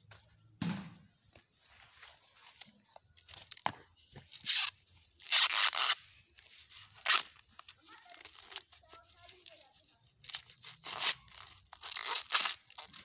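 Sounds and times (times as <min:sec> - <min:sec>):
corn husks tearing: 0:01.6 - 0:13.0.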